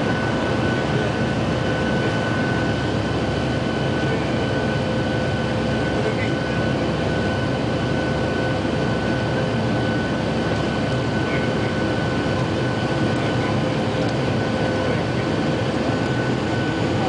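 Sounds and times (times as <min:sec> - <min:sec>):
high engine whine: 0:00.0 - 0:17.0
jet engine and airflow rush: 0:00.0 - 0:17.0.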